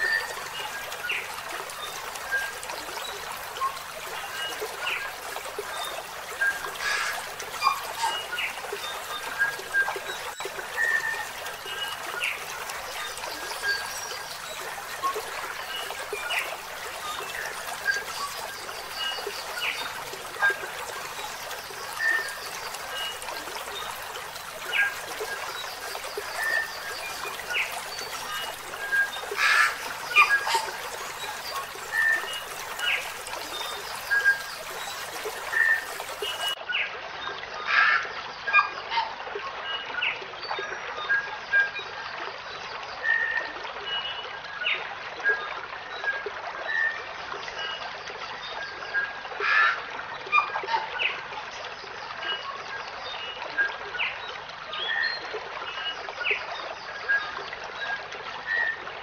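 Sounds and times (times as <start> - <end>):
trickling water: 0.0 - 59.0.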